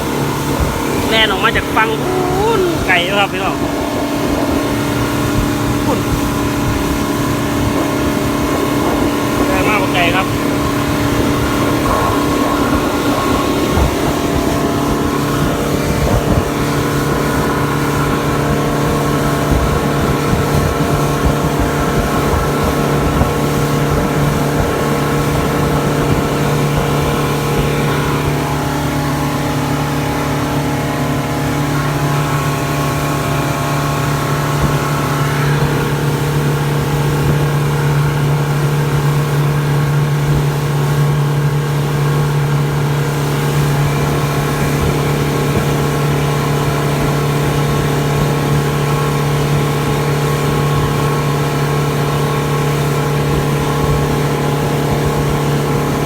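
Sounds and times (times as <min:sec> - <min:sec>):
wind noise: 0:00.0 - 0:29.4, 0:31.7 - 0:56.0
motorboat engine running: 0:00.0 - 0:56.0
water rushing: 0:00.0 - 0:56.0.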